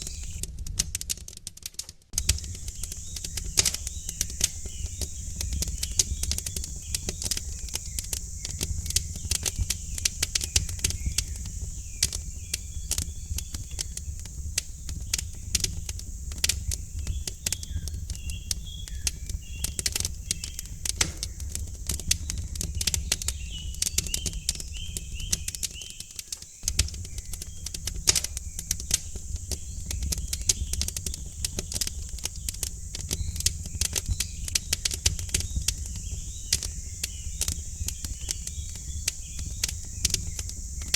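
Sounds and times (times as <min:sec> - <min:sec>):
faint birds chirping: 0:00.0 - 0:00.4, 0:02.2 - 0:40.9
steady high hiss: 0:00.0 - 0:00.4, 0:02.2 - 0:40.9
wood fire crackling and popping: 0:00.0 - 0:40.9.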